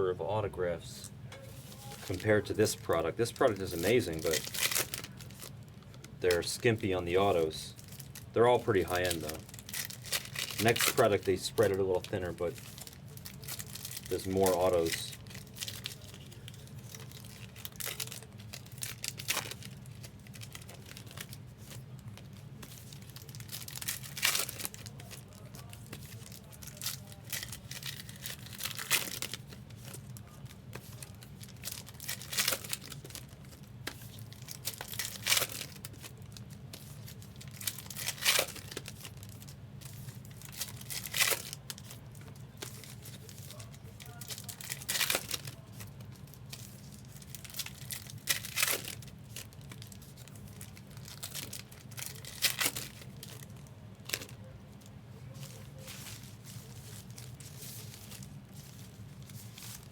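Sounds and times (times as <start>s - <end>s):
cards rustling: 1.4s - 59.9s
wrappers crinkling and tearing: 1.6s - 59.9s.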